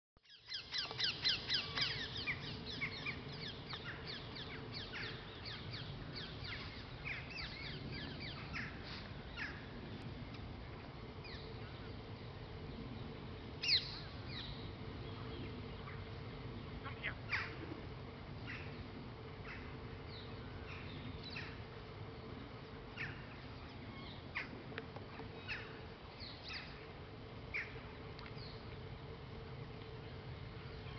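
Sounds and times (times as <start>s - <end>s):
birds calling: 0.2s - 10.4s, 11.2s - 28.7s
steady low hum: 0.2s - 30.9s.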